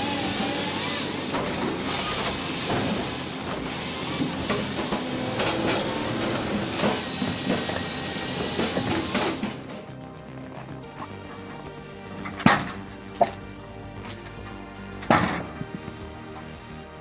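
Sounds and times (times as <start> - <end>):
log-splitting machine hissing: 0.0 - 17.0.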